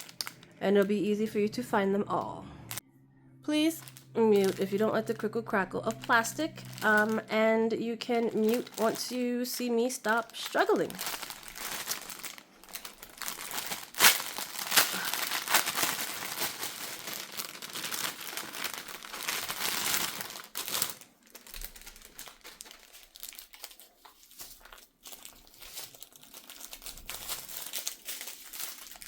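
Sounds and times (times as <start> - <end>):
plastic packaging crinkling: 0.0 - 0.9, 3.7 - 7.4, 8.1 - 29.0.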